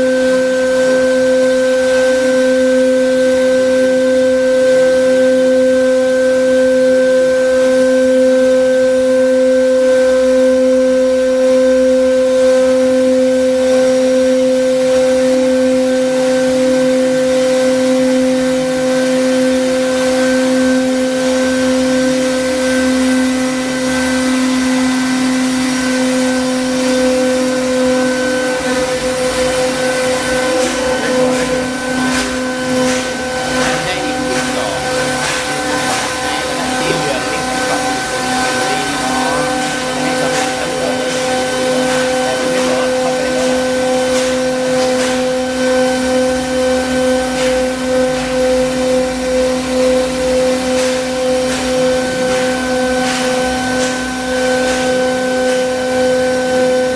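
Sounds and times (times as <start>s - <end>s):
router spindle whine: 0.0s - 56.9s.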